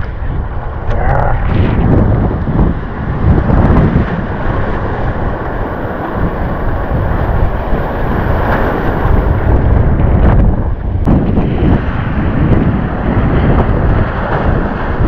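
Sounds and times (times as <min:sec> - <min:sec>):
breaking whitewater rushing: 0:00.0 - 0:15.0
wind buffeting microphone: 0:00.0 - 0:15.0.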